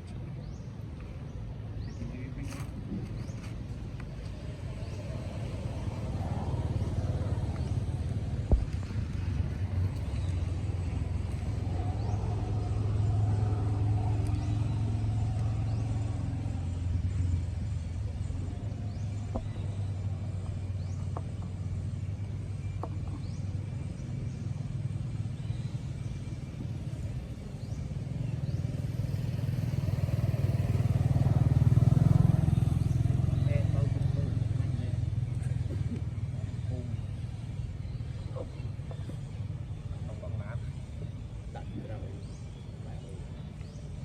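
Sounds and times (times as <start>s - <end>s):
vehicle engine rumble: 0.0s - 44.0s.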